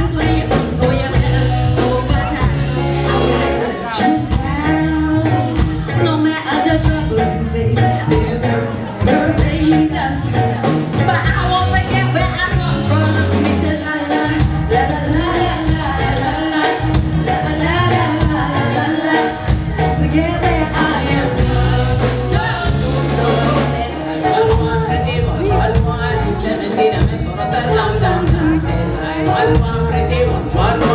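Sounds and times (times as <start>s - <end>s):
bass guitar: 0.0s - 30.9s
electric guitar: 0.0s - 30.9s
female vocals: 0.0s - 30.9s
keyboard: 0.0s - 30.9s
steady drum beat: 0.0s - 30.9s.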